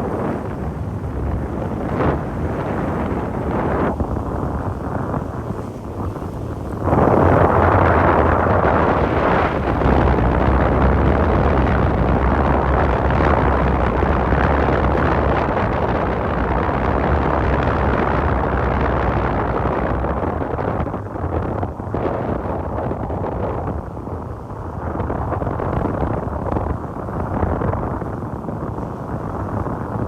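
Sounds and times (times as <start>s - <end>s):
boat engine drone: 0.0s - 30.0s
wind buffeting microphone: 0.0s - 30.0s.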